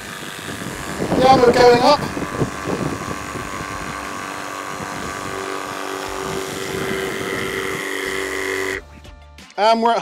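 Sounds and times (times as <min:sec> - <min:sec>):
high motor whine: 0:00.0 - 0:08.8
electric pump motor hum: 0:00.0 - 0:08.9.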